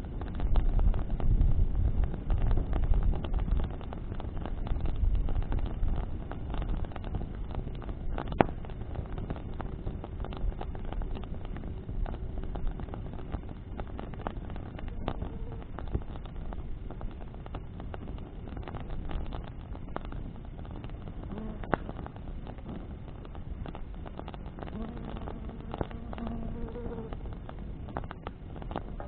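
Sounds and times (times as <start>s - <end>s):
bonfire wood crackling and popping: 0.0s - 29.0s
wind rumble on microphone: 0.0s - 29.0s.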